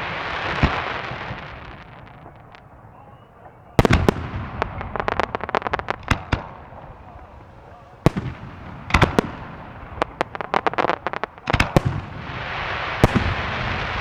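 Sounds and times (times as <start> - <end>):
crackling fireworks pops: 0.0 - 14.0
fireworks bangs: 0.0 - 14.0
fireworks rumble: 0.0 - 14.0.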